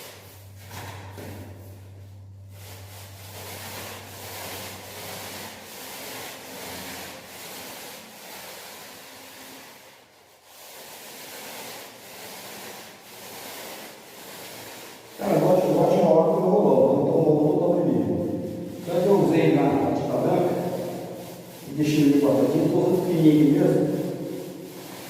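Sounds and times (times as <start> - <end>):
paint roller rubbing hiss: 0.0 - 25.0.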